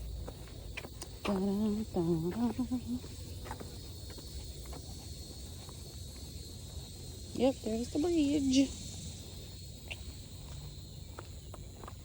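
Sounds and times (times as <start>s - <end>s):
faint footsteps on a trail: 0.0s - 12.0s
insects chirping: 0.0s - 12.0s.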